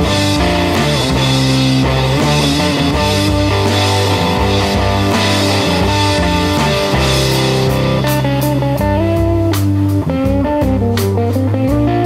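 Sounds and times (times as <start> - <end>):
drum hits: 0.0 - 12.0
rock music: 0.0 - 12.0.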